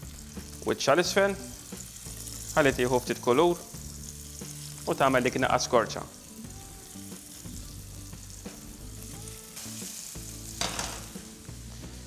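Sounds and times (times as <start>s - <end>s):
potatoes sizzling in a frying pan: 0.0s - 12.0s.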